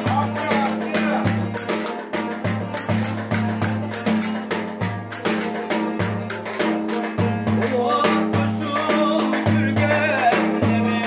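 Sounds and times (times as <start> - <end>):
banjo strummed hard: 0.0 - 11.0.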